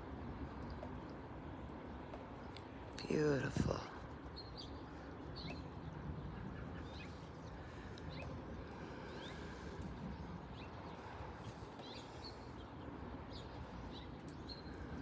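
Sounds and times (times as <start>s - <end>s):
low outdoor hum: 0.0s - 15.0s
birds chirping: 1.7s - 15.0s.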